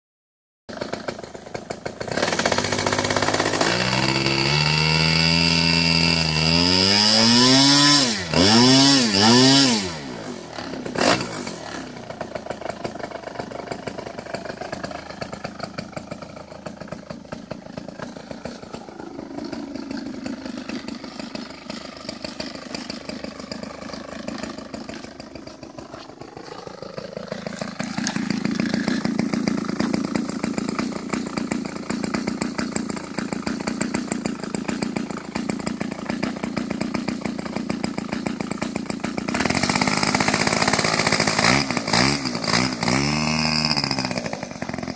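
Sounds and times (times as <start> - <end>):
model airplane engine revving: 0.7 - 44.9.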